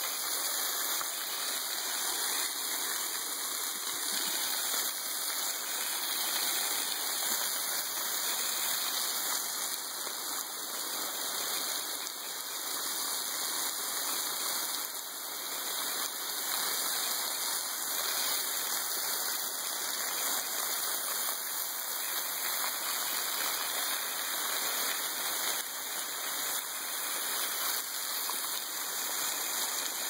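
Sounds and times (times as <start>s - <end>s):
waterfall splashing onto rocks: 0.0s - 30.0s.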